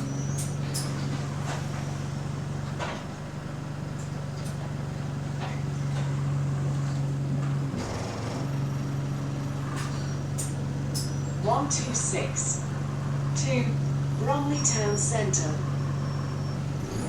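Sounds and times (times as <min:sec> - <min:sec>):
bus interior hum: 0:00.0 - 0:17.0.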